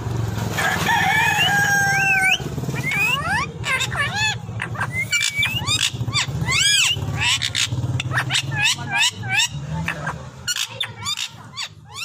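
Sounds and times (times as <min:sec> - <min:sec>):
parakeets screeching: 0:00.6 - 0:12.0.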